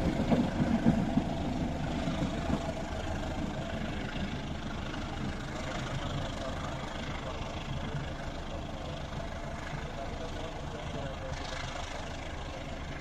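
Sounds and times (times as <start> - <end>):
low train rumble: 0.0 - 13.0
train wheels clattering on rails: 0.0 - 13.0.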